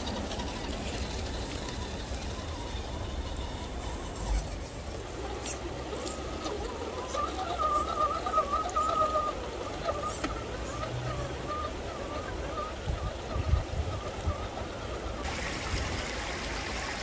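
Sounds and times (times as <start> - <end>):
toy car motor whining: 0.0 - 15.1
shallow stream rushing: 0.0 - 17.0.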